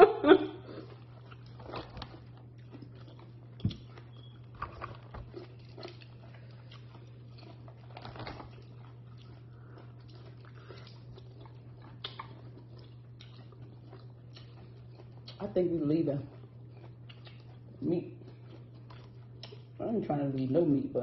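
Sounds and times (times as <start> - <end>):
steady low hum: 0.0 - 21.0
chewing and mouth smacks: 0.7 - 20.6.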